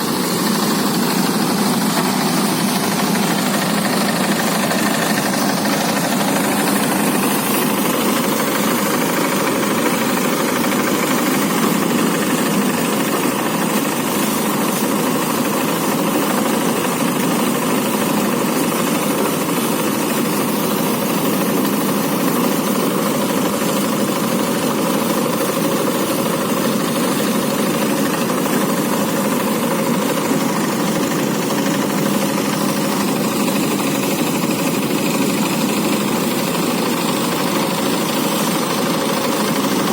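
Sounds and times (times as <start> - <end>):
threshing machine running: 0.0 - 39.9.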